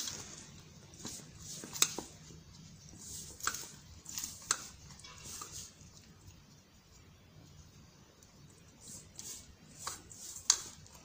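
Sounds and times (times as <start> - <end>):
hands kneading dough: 0.0 - 11.0.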